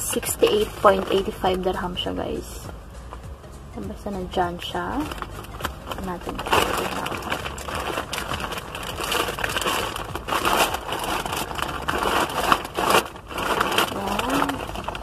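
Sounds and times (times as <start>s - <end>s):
plastic mailer bag rustling: 0.0s - 2.6s, 4.6s - 15.0s.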